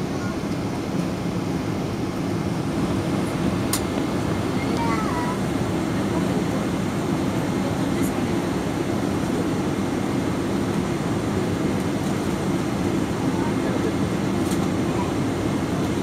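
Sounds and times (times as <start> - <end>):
jet engines idling in cabin: 0.0 - 16.0.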